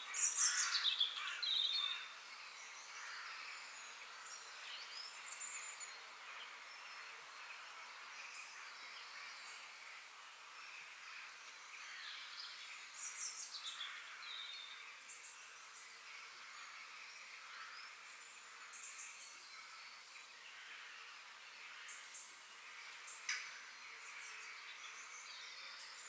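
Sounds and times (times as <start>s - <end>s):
small birds chirping and trilling: 0.0s - 26.0s
steady high hiss: 0.0s - 26.0s.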